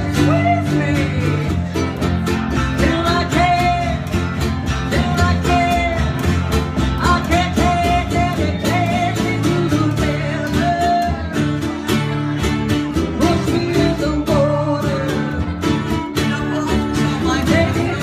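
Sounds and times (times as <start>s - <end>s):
guitar: 0.0s - 18.0s
person singing: 0.0s - 18.0s.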